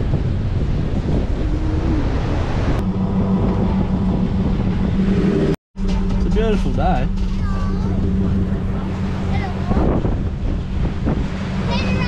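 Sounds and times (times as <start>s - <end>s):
wind buffeting microphone: 0.0s - 12.0s
steady low hum: 1.2s - 11.7s.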